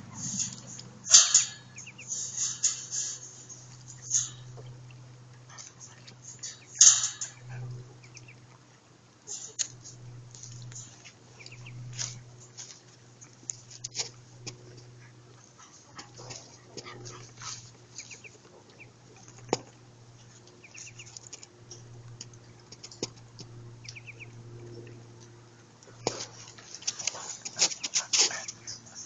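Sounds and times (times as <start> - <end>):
ducklings peeping: 0.0 - 12.5, 14.8 - 19.6, 20.2 - 21.4, 22.3 - 29.0
steady low hum: 0.0 - 29.0.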